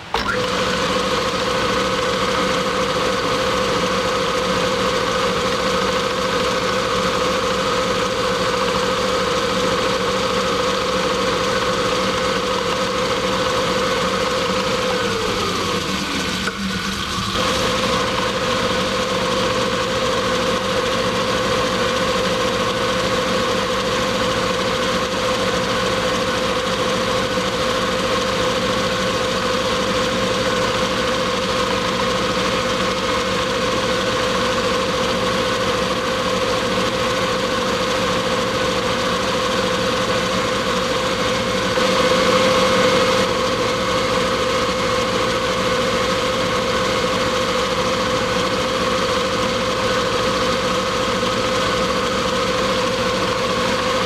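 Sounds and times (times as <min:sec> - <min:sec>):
metal lathe humming and whining: 0:00.0 - 0:54.0.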